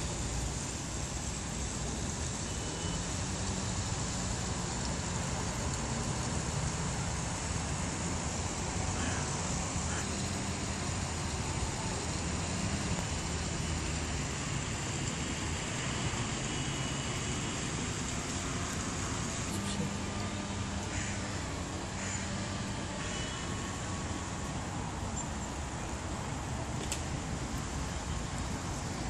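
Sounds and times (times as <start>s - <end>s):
city road traffic hum: 0.0s - 29.0s.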